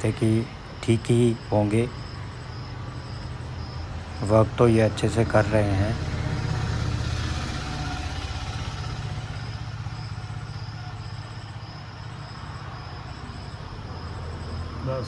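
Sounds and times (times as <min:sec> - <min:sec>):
crickets chirping: 0:00.0 - 0:15.0
vehicle engine running at low revs: 0:00.0 - 0:15.0.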